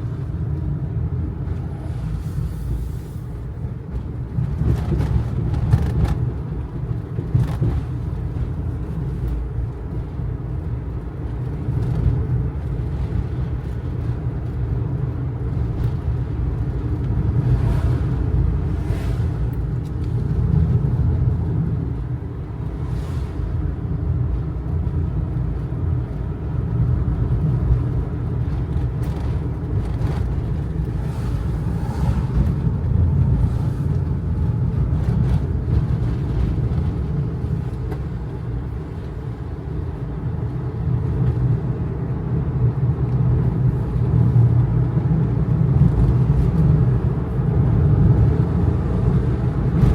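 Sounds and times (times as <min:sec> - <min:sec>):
truck engine and road rumble: 0:00.0 - 0:49.9.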